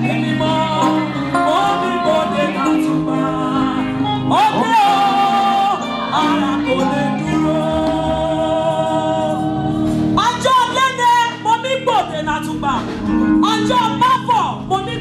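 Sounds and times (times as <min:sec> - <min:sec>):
woman singing gospel: 0:00.0 - 0:12.6
live backing music: 0:00.0 - 0:15.0.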